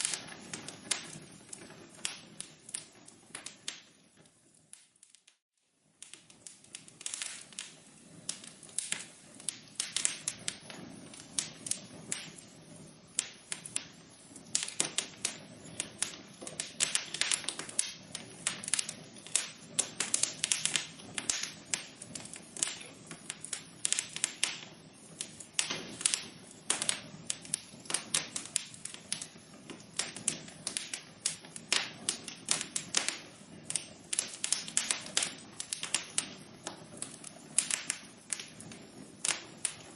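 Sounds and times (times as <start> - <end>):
hiss of flame: 0.0 - 39.9
wood fire crackling: 0.0 - 39.9.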